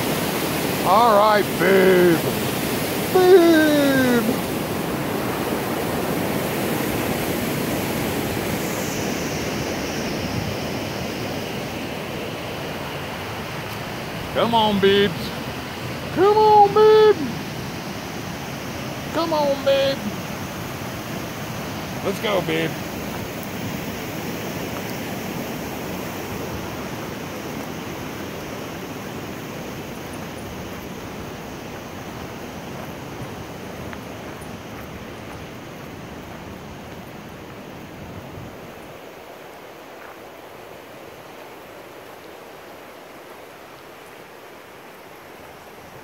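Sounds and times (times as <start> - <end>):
creek rushing over rocks: 0.0 - 46.0.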